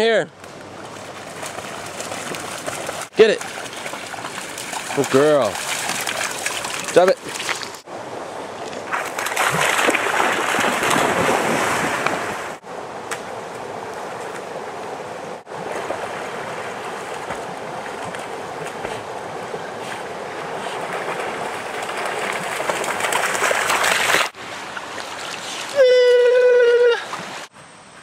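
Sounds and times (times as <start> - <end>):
river water rushing: 0.7 - 26.3, 27.0 - 27.5.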